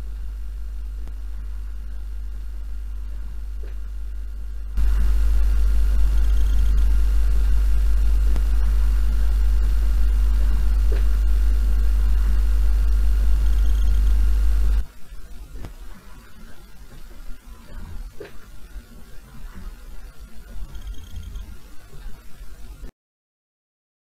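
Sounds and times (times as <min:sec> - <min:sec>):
low hum with hiss: 0:00.0 - 0:22.9.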